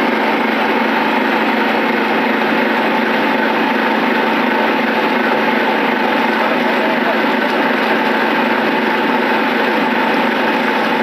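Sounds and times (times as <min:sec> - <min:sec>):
spraying machine droning: 0:00.0 - 0:11.0.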